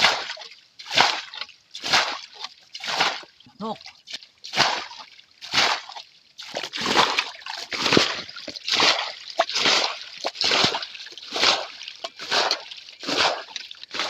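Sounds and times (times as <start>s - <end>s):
rhythmic water splashing: 0.0s - 14.0s.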